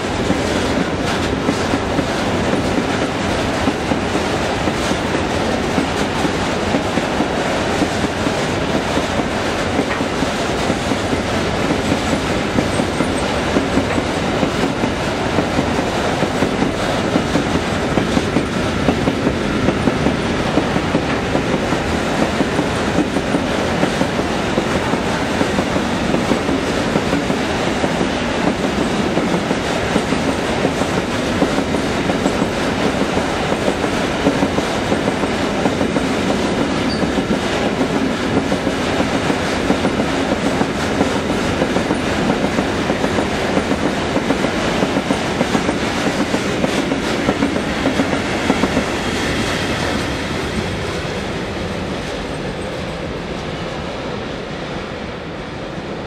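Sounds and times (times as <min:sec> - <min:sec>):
freight train wheels clicking: 0:00.0 - 0:53.5.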